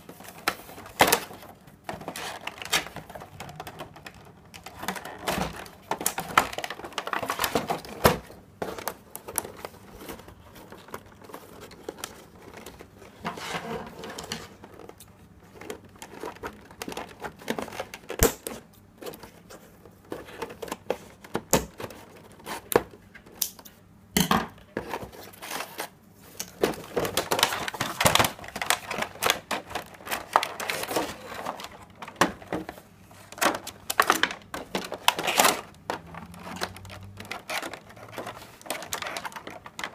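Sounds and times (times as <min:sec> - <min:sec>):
plastic packaging crinkling: 0:00.0 - 0:23.0, 0:24.8 - 0:39.9.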